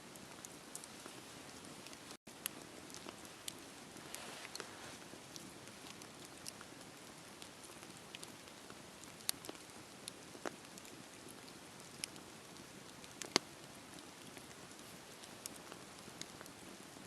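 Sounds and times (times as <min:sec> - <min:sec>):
bonfire crackling and popping: 0:00.1 - 0:17.0.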